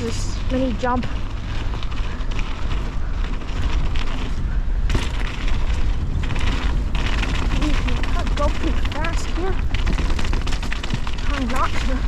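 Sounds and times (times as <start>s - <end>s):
bike rattling: 0.0s - 12.0s
tyres rolling over wet dirt: 0.0s - 12.0s
wind buffeting microphone: 0.0s - 12.0s.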